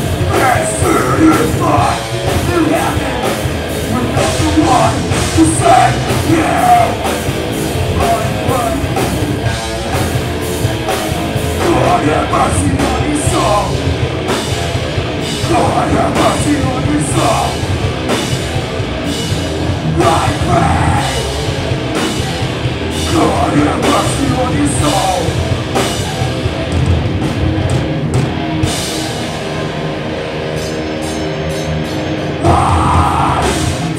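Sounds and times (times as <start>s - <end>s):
drum kit: 0.0s - 33.9s
electric guitar: 0.0s - 33.9s.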